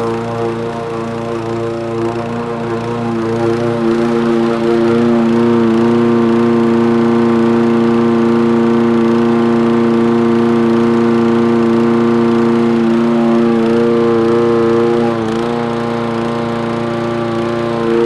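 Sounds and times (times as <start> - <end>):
lawn mower motor hum: 0.0 - 18.0.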